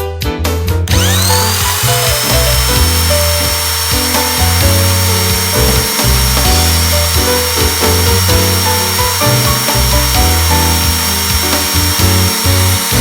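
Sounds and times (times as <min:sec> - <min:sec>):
background music with beat: 0:00.0 - 0:13.0
electric motor whine: 0:00.9 - 0:13.0.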